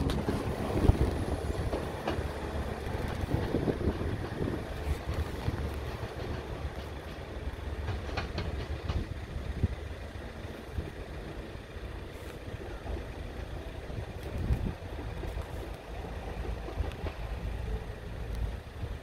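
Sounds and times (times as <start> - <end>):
diesel engine rumble: 0.0 - 19.0
train wheels clicking over points: 0.0 - 19.0.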